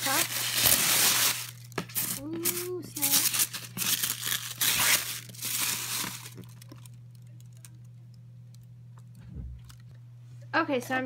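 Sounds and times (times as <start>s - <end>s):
packaging wrap crinkling: 0.0s - 9.9s.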